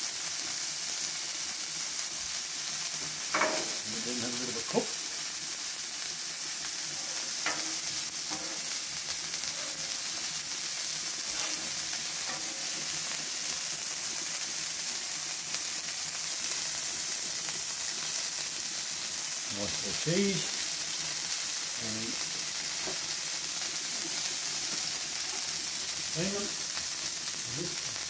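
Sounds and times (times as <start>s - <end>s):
patties sizzling on a griddle: 0.0s - 28.0s.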